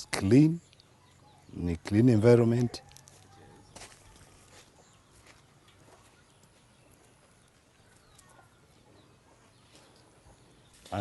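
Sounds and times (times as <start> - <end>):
distant chickens: 0.0 - 11.0.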